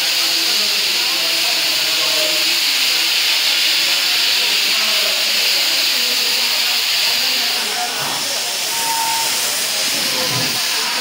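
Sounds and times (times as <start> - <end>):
faint voices: 0.0 - 11.0
steam locomotive hissing: 0.0 - 11.0.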